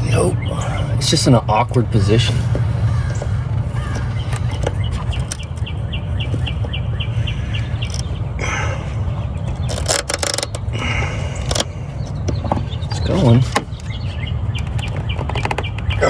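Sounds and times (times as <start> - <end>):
small bird chirping: 0.0 - 16.0
steady low rumble: 0.0 - 16.0.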